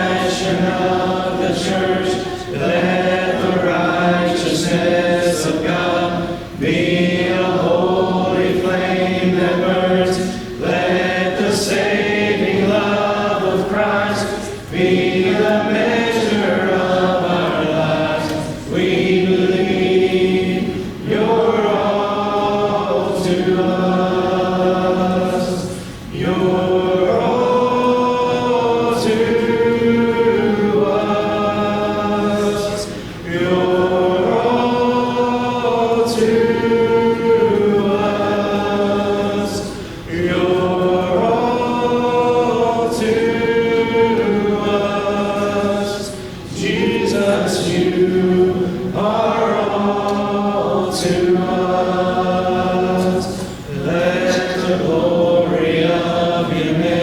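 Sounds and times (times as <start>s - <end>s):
congregation singing a hymn: 0.0s - 57.0s.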